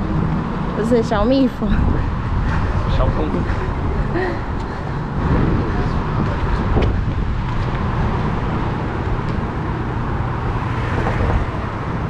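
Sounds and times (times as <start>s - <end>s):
cars going by: 0.0s - 12.0s.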